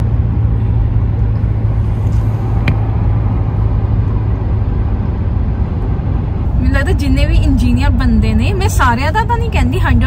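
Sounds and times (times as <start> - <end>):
car road noise from inside: 0.0 - 10.0.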